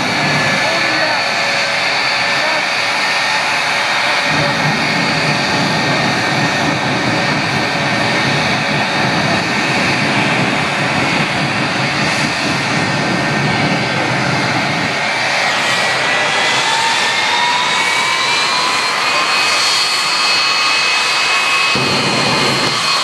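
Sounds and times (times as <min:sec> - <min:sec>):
turbine engine roar with whine: 0:00.0 - 0:23.0.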